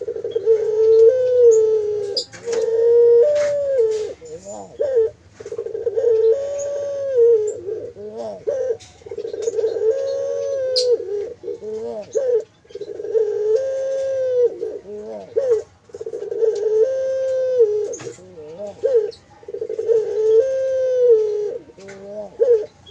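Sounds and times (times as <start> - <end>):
dove cooing: 0.0 - 22.9.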